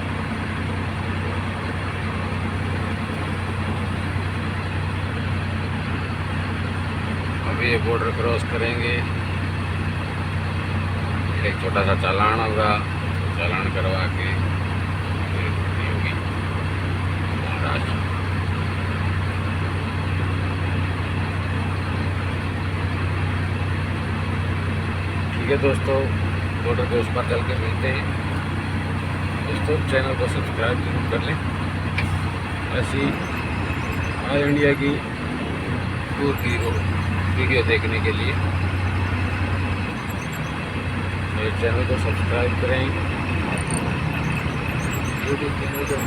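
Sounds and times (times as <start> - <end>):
road and cab noise: 0.0 - 46.0
truck diesel engine hum: 0.0 - 46.0.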